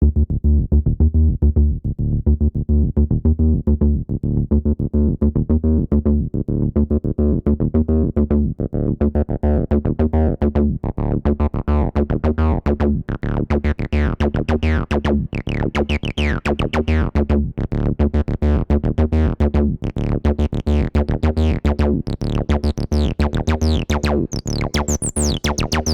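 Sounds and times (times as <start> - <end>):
acid bass synthesizer line: 0.0 - 25.9.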